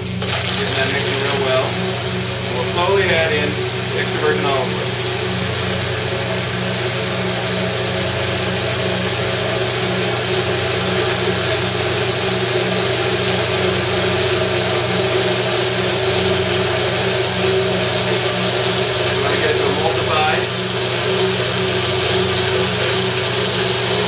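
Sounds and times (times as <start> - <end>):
immersion blender running in liquid: 0.0 - 24.0.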